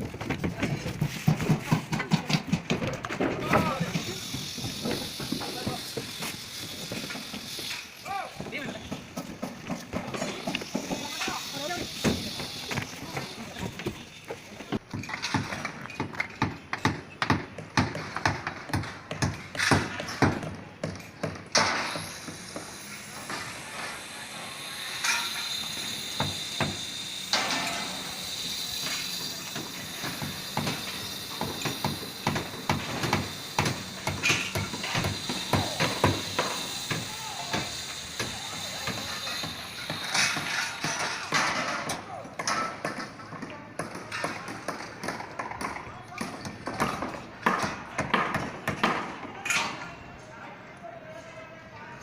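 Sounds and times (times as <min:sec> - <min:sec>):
knocks and metallic clanks: 0:00.0 - 0:06.2, 0:11.9 - 0:23.6, 0:25.0 - 0:49.9
steady background noise: 0:00.0 - 0:52.0.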